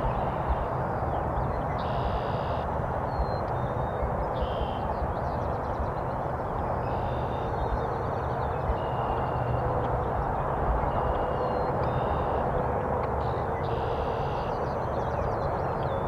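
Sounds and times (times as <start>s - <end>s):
faint songbirds chirping: 0.0s - 16.0s
low rushing background noise: 0.0s - 16.0s.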